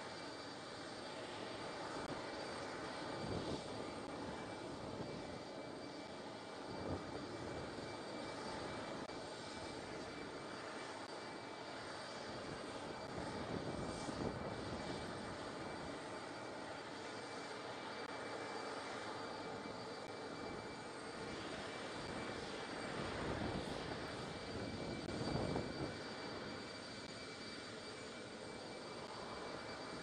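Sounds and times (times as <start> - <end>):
jet engines idling: 0.0 - 30.0.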